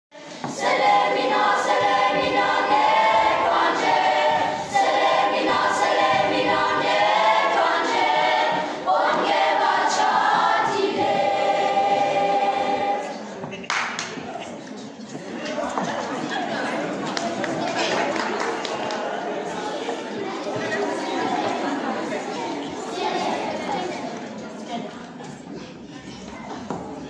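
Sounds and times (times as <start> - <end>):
children's choir singing: 0.1 - 13.6, 15.2 - 27.0.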